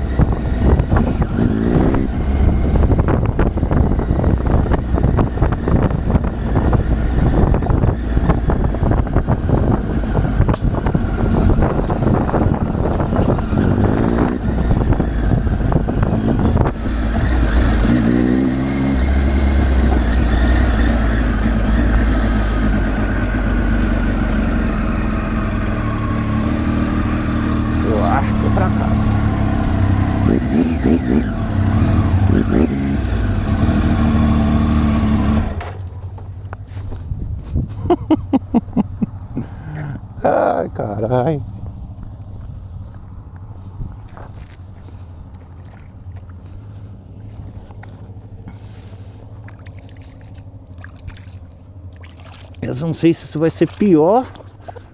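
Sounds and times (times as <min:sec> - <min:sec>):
motorcycle engine running: 0:00.0 - 0:37.5, 0:38.6 - 0:54.9.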